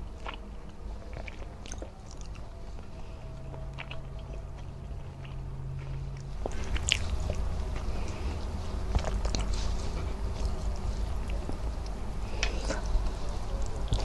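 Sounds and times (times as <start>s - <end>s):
chewing food: 0.0s - 14.0s
low steady hum: 0.0s - 14.0s.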